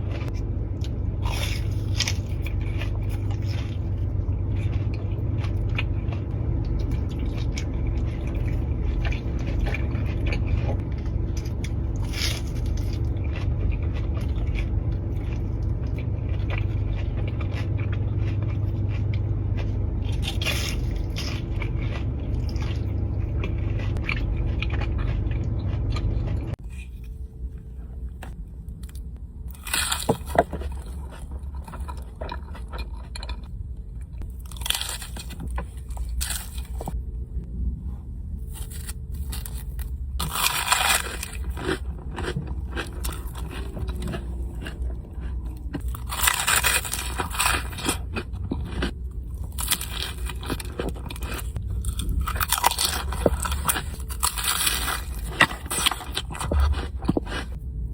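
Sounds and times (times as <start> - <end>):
biting and chewing food: 0.0 - 37.5, 38.3 - 57.9
steady low hum: 0.0 - 57.9.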